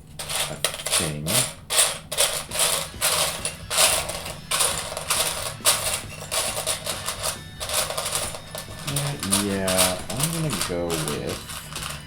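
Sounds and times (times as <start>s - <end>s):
plastic pieces clattering: 0.2s - 12.0s.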